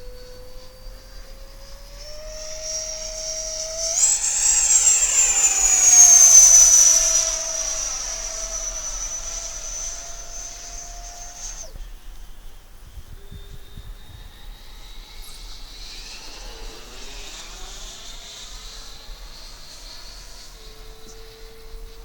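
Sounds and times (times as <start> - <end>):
model jet whine: 0.0 - 22.0.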